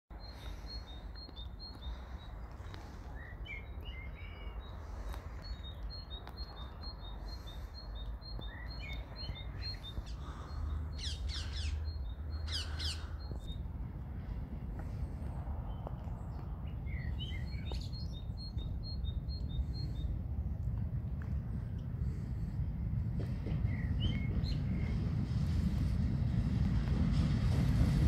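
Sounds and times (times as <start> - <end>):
songbirds chirping: 0.1 - 25.1
low rumble: 0.1 - 28.0.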